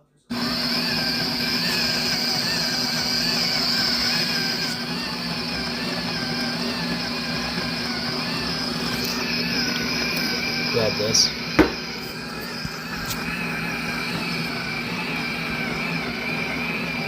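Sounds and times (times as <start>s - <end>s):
coffee grinder grinding beans: 0.3s - 17.0s.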